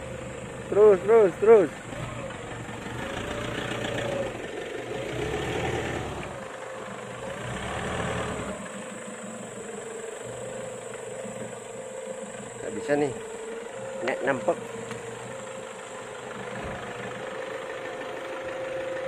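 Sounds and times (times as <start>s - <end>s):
truck engine idling: 0.0s - 19.0s
truck engine revving: 0.0s - 19.0s.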